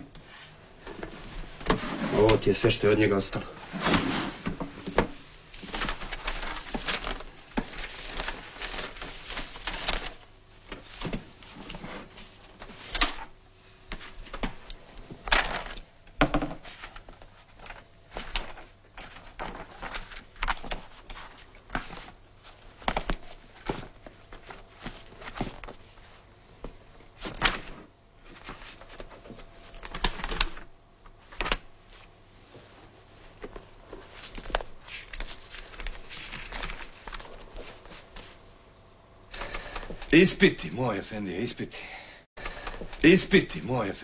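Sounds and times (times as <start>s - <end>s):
papers rustling: 0.3s - 38.4s, 39.4s - 41.0s.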